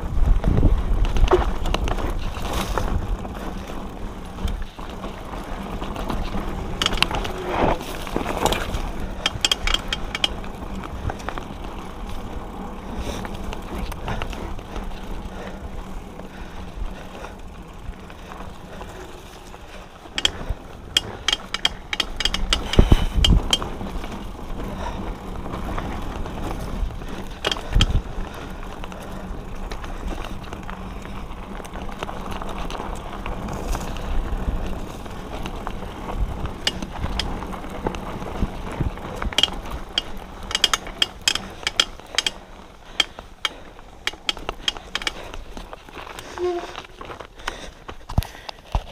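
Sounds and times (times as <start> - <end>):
bike chain and frame rattling: 0.0 - 48.9
bike heavy jolts: 0.0 - 48.9
bike tyres on dirt: 0.0 - 48.9.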